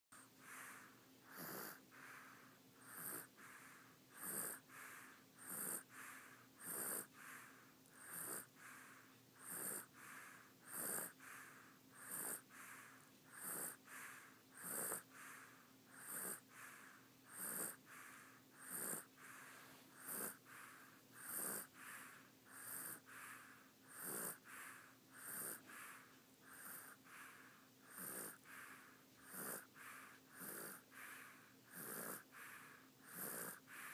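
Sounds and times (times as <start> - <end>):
baby snoring softly: 0.2 - 33.9.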